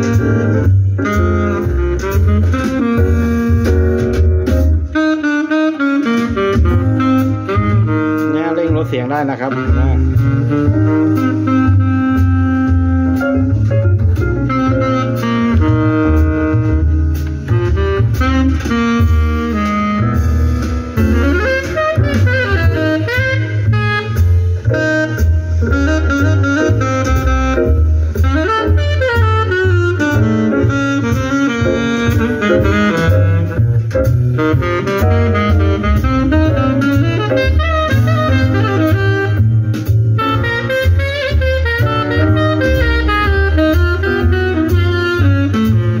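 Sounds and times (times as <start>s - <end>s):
instrumental music over loudspeakers: 0.0s - 46.0s.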